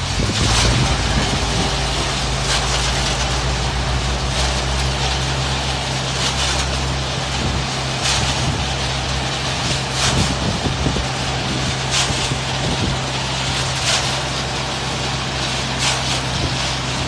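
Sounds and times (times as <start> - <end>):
mixer drum swishing: 0.0 - 17.0
truck engine humming: 0.0 - 17.0.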